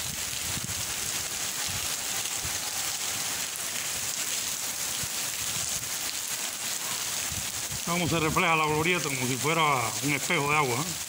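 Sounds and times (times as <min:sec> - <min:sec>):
heavy rain on puddles: 0:00.0 - 0:11.0.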